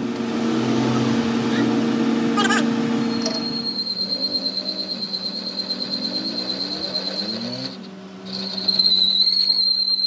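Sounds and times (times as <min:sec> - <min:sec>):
high-pitched cutting whine: 0:00.6 - 0:10.0.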